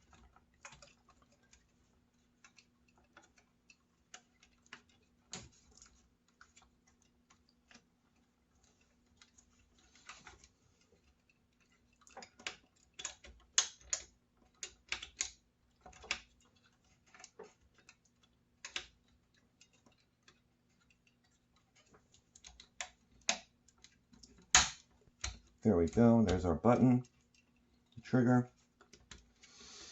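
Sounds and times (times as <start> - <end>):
small plastic parts clicking: 0.0 - 29.5.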